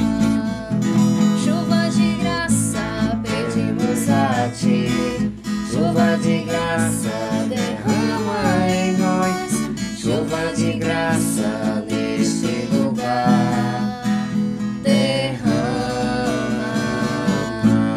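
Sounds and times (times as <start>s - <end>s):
person singing: 0.0s - 17.9s
strummed acoustic guitar: 0.0s - 17.9s.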